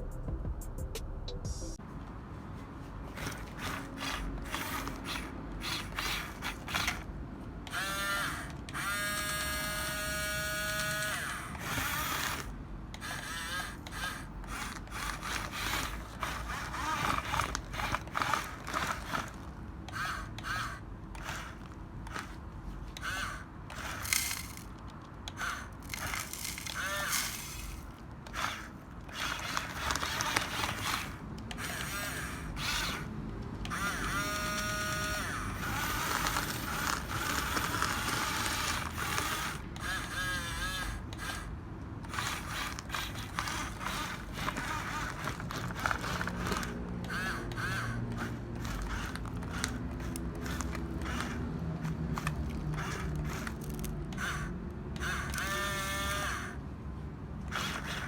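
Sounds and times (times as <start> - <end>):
small electric motors whirring: 2.8 - 56.8, 57.4 - 58.0
plastic gears clicking and ratcheting: 3.1 - 56.6, 57.4 - 58.0.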